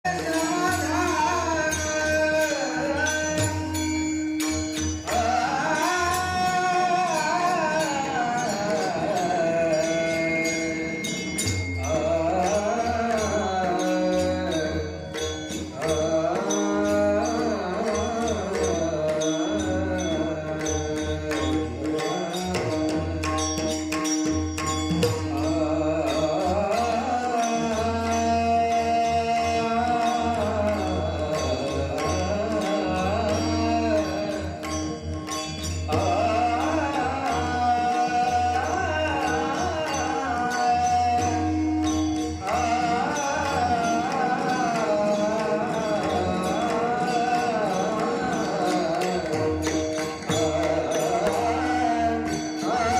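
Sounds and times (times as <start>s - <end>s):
man singing devotional song: 0.0s - 52.9s.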